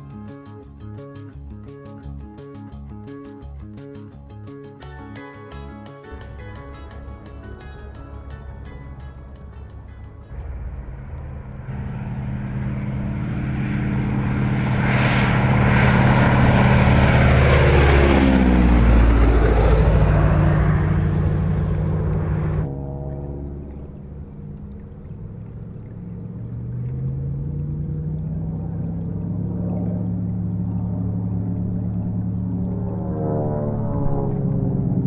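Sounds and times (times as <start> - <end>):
aircraft engine heard from on board: 0.0 - 35.0
biplane engine flying past: 0.0 - 35.0.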